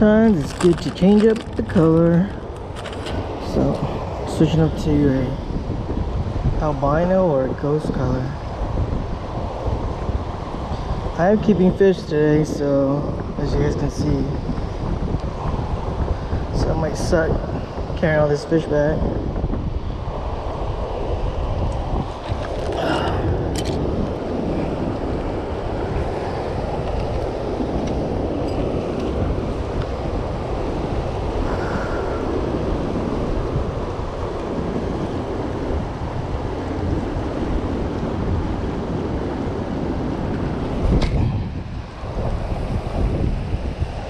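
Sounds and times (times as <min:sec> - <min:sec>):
churning water rushing: 0:00.0 - 0:44.0
wind buffeting microphone: 0:00.0 - 0:44.0.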